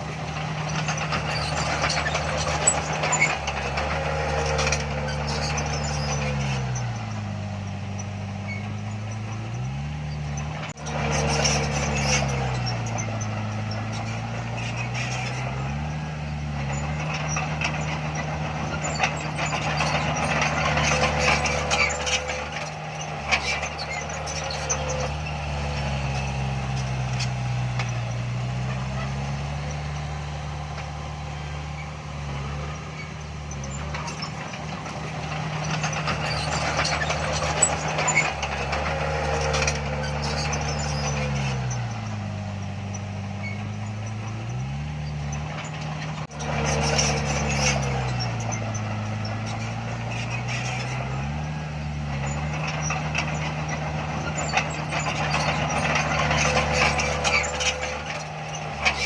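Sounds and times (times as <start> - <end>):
heavy diesel engine under load: 0.0 - 59.0
machinery clanks and knocks: 0.0 - 59.0.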